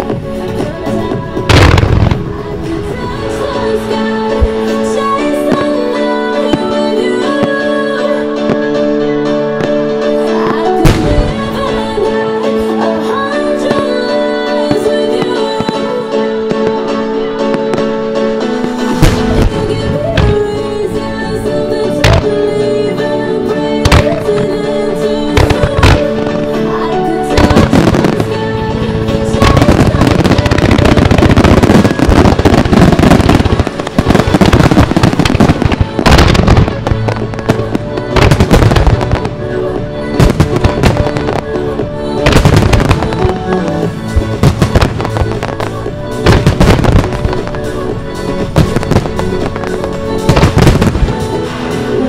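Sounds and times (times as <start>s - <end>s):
fireworks bursts and booms: 0.0s - 52.0s
loud music: 0.0s - 52.0s.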